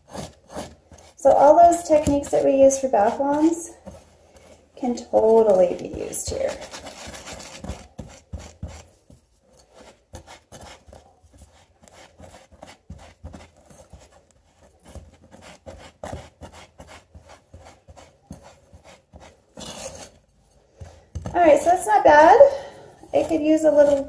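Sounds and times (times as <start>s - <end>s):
spatula scraping a ceramic bowl: 0.0s - 21.9s, 22.9s - 24.0s.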